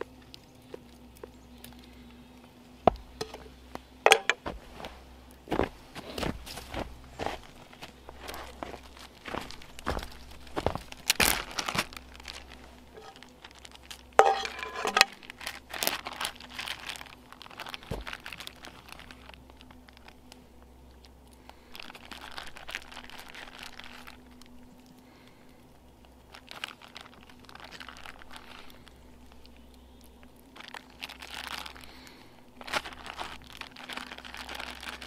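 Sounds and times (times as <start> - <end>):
crinkling and rustling handling: 0.0 - 35.0.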